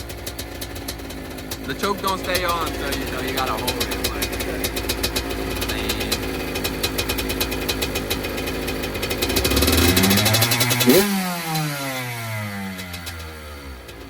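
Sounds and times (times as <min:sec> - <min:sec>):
two-stroke engine revving: 0:00.0 - 0:14.0.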